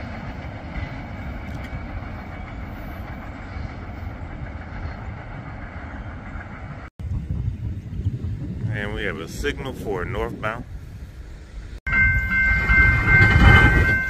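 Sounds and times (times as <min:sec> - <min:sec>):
steel wheels rumbling on rails: 0:00.0 - 0:14.0.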